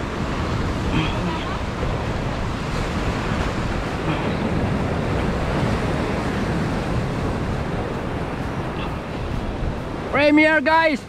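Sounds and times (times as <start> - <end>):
wind on microphone: 0.0 - 10.4
surf breaking against rocks: 0.0 - 11.0.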